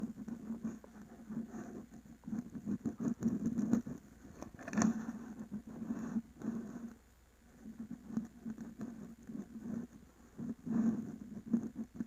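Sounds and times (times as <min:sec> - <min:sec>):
rubbing and scraping on microphone: 0:00.0 - 0:12.0.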